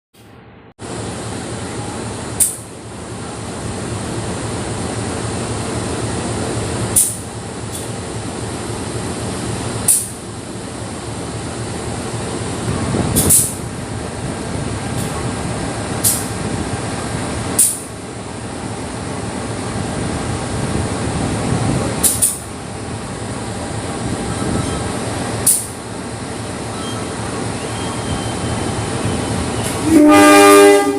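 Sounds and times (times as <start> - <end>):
locomotive engine rumbling: 0.8 - 30.9.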